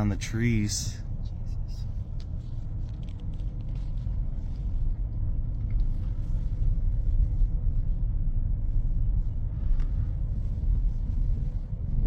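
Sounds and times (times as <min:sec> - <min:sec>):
vehicle rumble from inside: 0:00.0 - 0:12.0.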